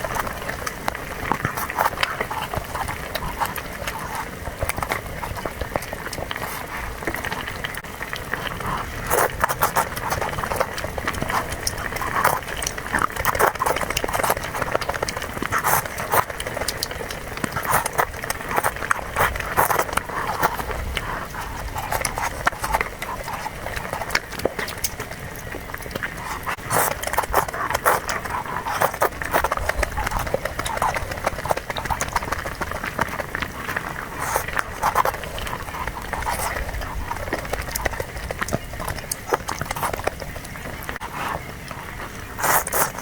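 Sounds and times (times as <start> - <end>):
wet chewing and mouth smacks: 0.0 - 43.0.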